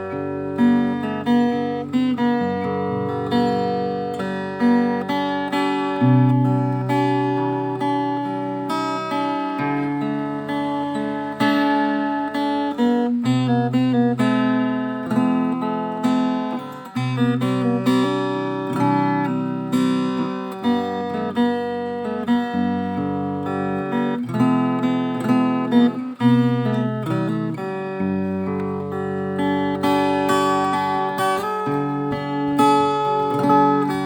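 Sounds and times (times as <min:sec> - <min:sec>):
acoustic guitar music: 0:00.0 - 0:34.0.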